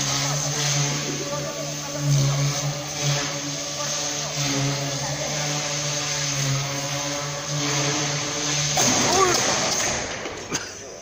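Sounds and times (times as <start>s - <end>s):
model aircraft motor buzzing: 0.0s - 10.5s.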